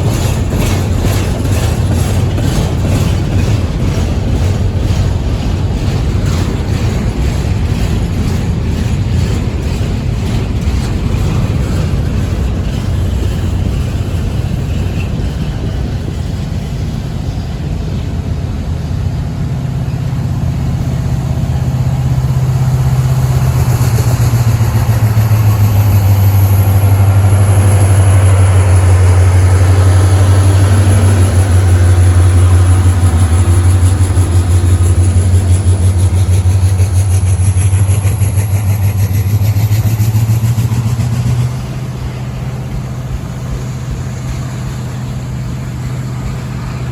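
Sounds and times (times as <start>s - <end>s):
diesel locomotive engine drone: 0.0s - 46.9s.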